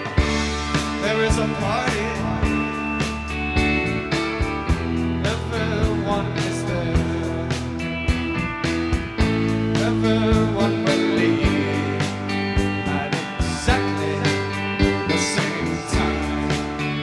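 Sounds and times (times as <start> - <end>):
band music: 0.0 - 17.0
steady drum beat: 0.0 - 17.0.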